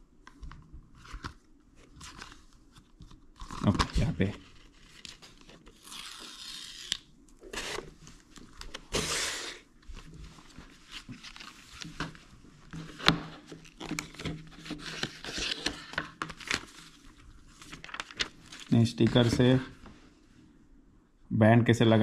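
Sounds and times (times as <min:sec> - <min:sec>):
paper and card crinkling: 0:00.4 - 0:19.9.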